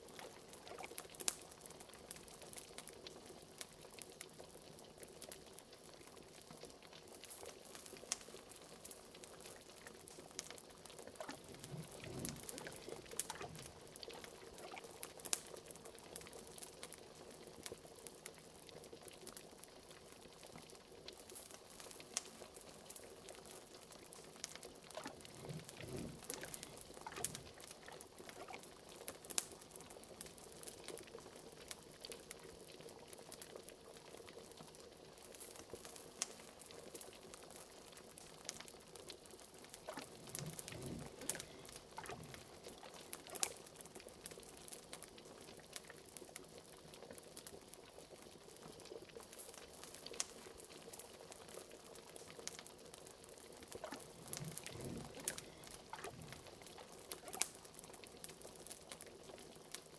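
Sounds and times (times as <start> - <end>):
liquid bubbling in a cauldron: 0.0 - 59.9
wood fire crackling: 0.0 - 59.9.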